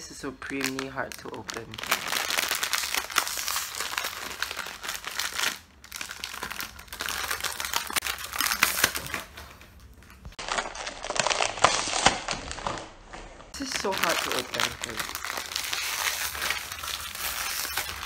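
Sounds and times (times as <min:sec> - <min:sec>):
plastic packet crinkling: 0:00.1 - 0:12.9, 0:13.5 - 0:18.0.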